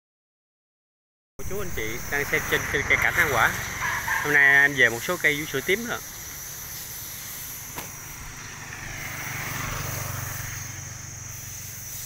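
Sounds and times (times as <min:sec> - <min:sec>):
vehicle engine hum passing: 0:01.4 - 0:12.0.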